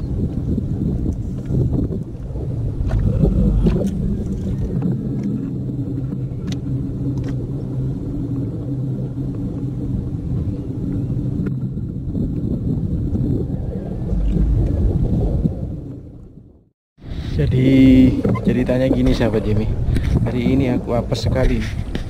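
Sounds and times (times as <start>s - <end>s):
low motor drone: 0.0s - 22.0s.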